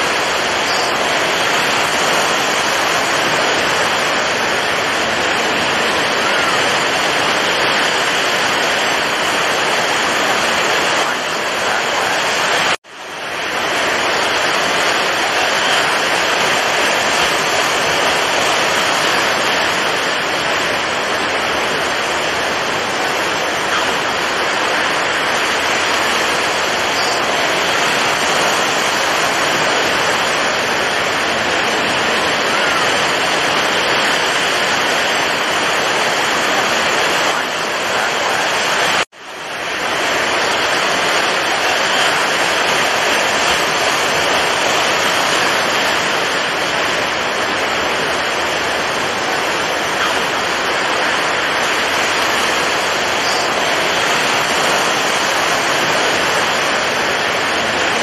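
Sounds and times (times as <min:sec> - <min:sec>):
rough sea and breaking surf: 0:00.0 - 0:58.0.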